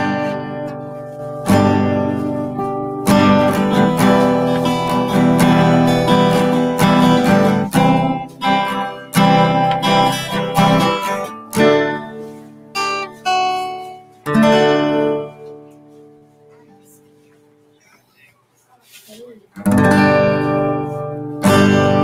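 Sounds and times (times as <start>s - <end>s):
acoustic guitar strumming chords: 0.0s - 18.3s, 19.6s - 22.0s.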